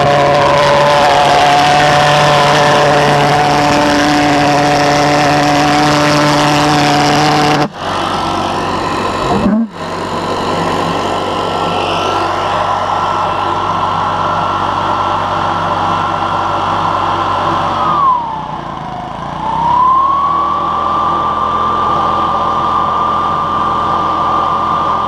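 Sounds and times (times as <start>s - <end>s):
pulse jet engine running: 0.0s - 25.0s.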